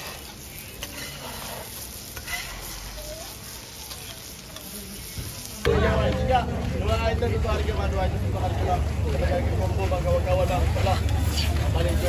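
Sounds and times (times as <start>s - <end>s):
food frying sizzle: 0.0s - 12.0s.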